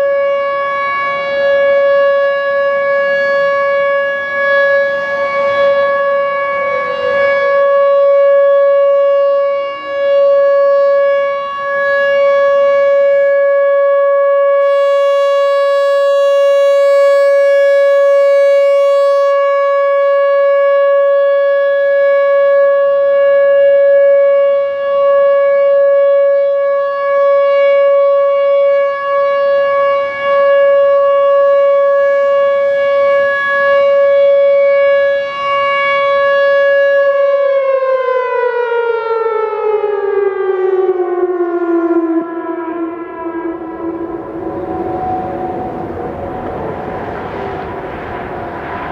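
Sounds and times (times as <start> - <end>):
steady siren tone: 0.0 - 48.9.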